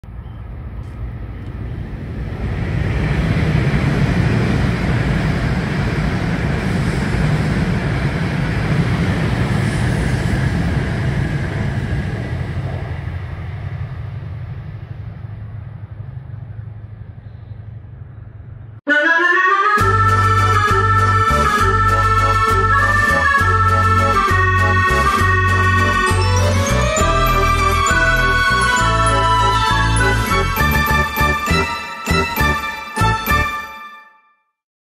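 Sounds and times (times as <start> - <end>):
high-speed train rushing past: 0.1 - 19.2, 19.8 - 33.9.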